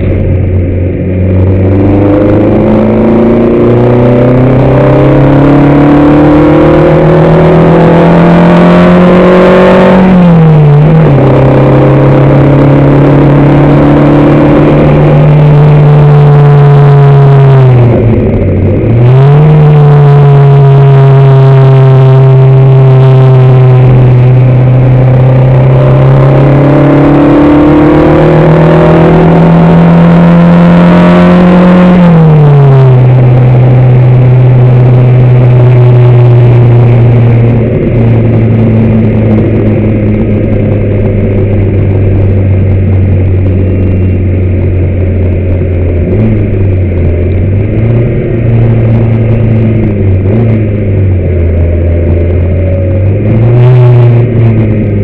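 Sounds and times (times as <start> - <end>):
race car engine under load: 0.0 - 55.0.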